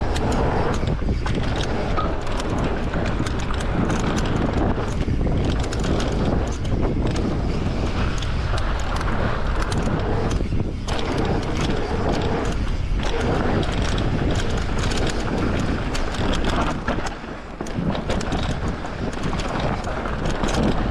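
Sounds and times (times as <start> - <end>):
bike clicks and rattles: 0.0 - 20.9
tyres rolling on dirt: 0.0 - 20.9
wind buffeting microphone: 0.0 - 20.9.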